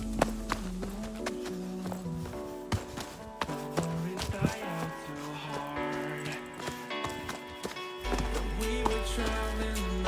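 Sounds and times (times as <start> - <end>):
person singing: 0.0 - 10.0
pop music: 0.0 - 10.0.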